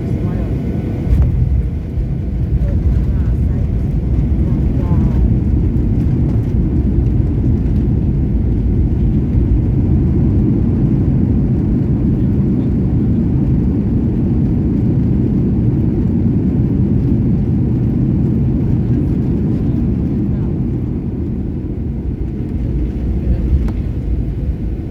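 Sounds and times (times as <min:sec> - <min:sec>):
airplane cabin engine rumble: 0:00.0 - 0:24.9.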